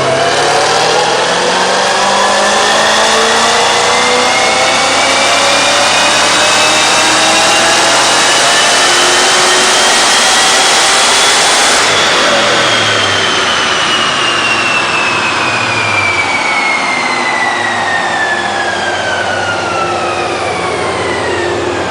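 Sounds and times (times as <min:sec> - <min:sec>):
car engine at full throttle: 0:00.0 - 0:21.9
engine and rollers winding down: 0:00.0 - 0:21.9.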